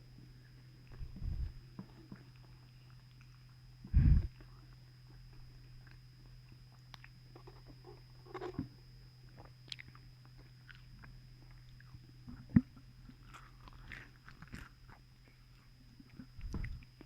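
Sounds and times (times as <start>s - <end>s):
biting and chewing food: 0.8s - 8.7s, 9.3s - 17.0s.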